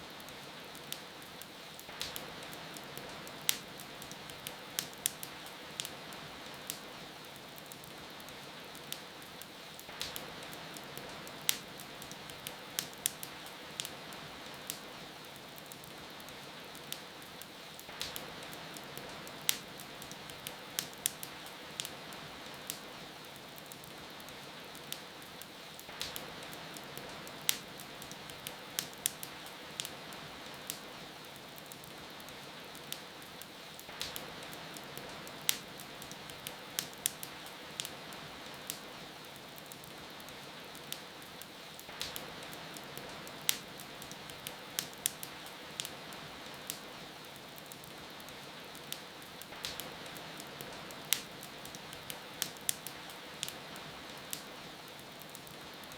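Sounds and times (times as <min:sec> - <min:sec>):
rain hiss: 0:00.0 - 0:55.9
wood fire crackling: 0:00.0 - 0:55.9
sharp pops of fire: 0:00.2 - 0:55.9.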